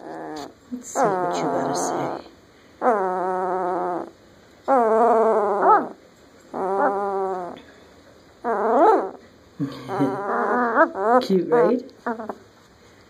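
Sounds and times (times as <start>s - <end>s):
puppy whining: 0.0s - 7.7s, 8.4s - 9.3s, 9.9s - 12.5s.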